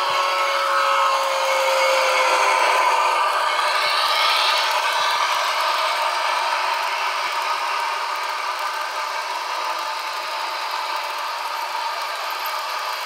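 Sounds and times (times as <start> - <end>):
model train wheels rattling: 1.2 - 13.0.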